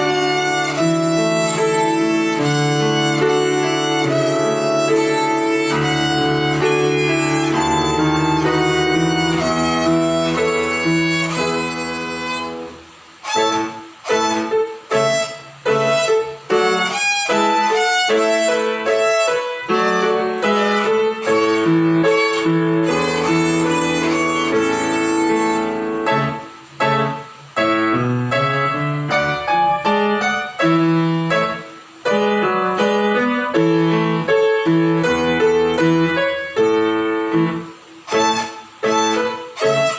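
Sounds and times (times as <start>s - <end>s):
piano accompaniment: 0.0s - 39.9s
violin melody: 0.0s - 39.9s.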